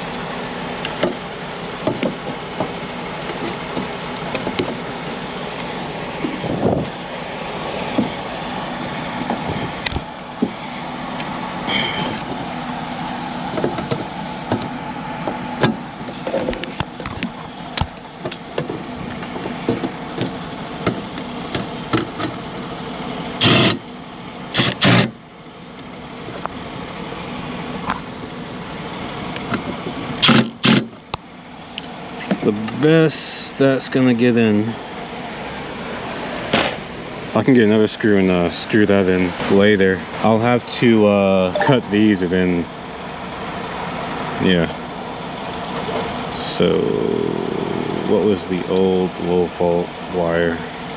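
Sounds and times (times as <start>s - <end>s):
machinery running: 0.0s - 25.7s, 26.3s - 50.9s.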